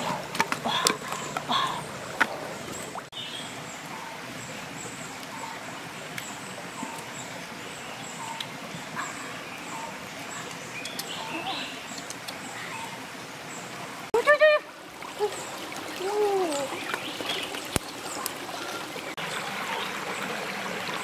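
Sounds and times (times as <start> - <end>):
rocky stream rushing: 0.0 - 21.0.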